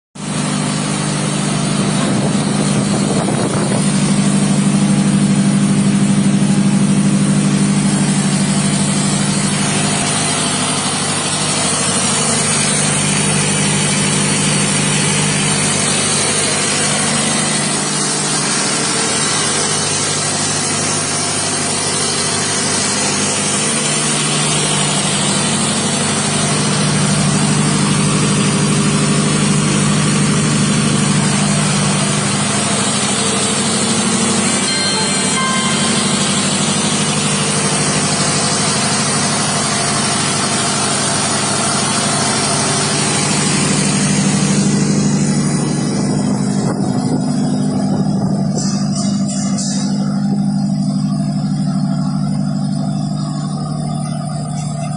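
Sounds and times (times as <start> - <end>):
diesel generator humming: 0.2 - 54.9.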